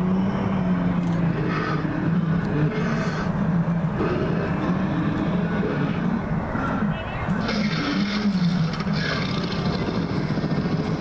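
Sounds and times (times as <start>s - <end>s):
low wavering animal growl: 0.0s - 11.0s.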